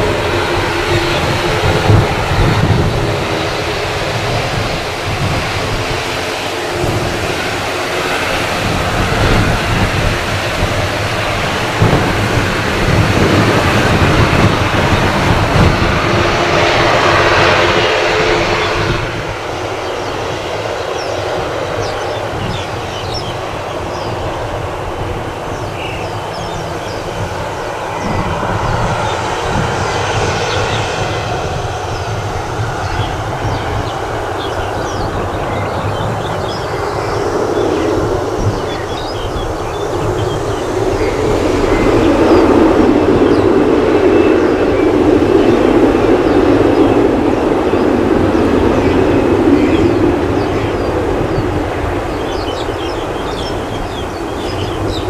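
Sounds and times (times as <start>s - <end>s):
aircraft rumble: 0.0s - 55.0s
jet airliner noise: 0.0s - 55.0s.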